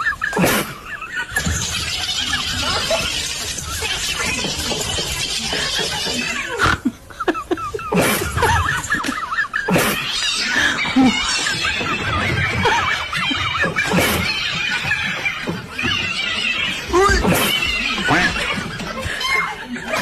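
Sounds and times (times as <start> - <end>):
laughter with high-pitched glides: 0.0 - 20.0.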